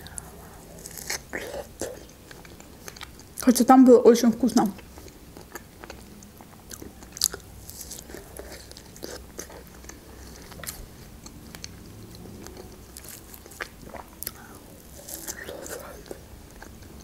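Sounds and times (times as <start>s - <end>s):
person chewing strawberries: 0.0s - 3.5s, 4.8s - 17.0s.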